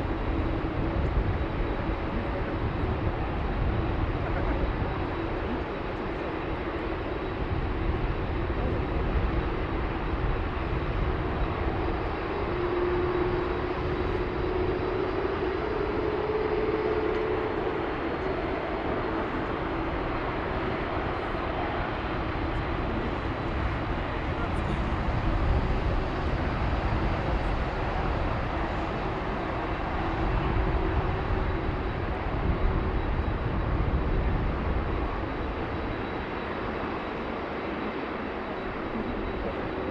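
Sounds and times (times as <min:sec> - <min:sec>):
jet engine rumble: 0:00.0 - 0:39.9
jet engine whining tone: 0:00.0 - 0:39.9.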